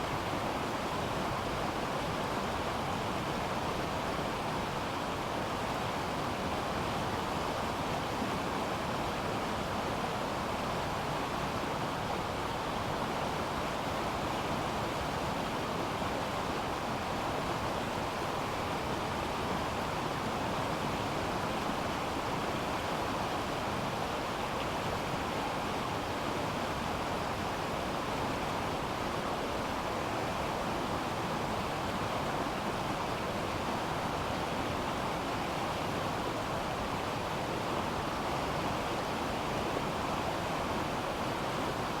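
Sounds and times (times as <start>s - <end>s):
river water flowing: 0.1s - 42.0s.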